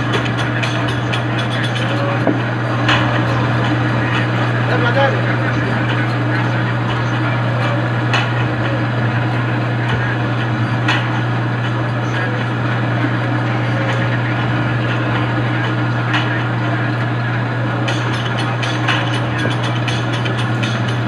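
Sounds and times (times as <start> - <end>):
noisy background: 0.0 - 21.0
steady low hum: 0.0 - 21.0.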